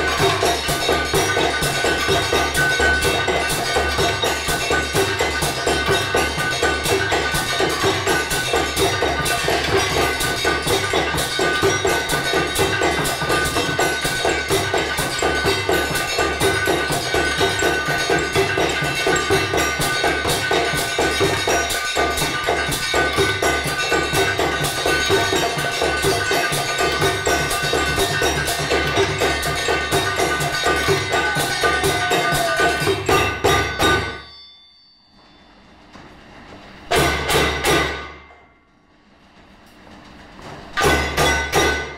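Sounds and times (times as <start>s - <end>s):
steady ringing tone: 0.0s - 39.3s
percussion on hammers and tools: 0.0s - 41.9s.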